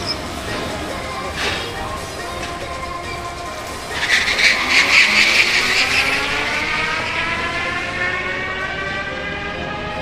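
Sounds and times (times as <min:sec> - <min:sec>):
electric race car whining: 0:00.0 - 0:10.0.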